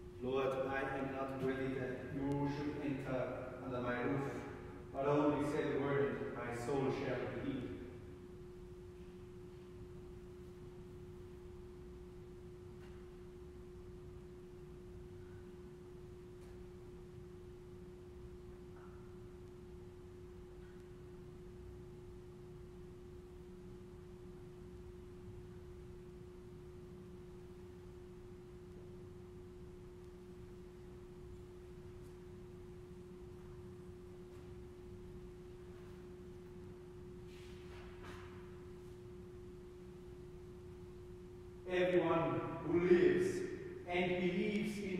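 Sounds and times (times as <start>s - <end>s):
low room rumble: 0.0s - 44.9s
steady single-pitched hum: 0.0s - 44.9s.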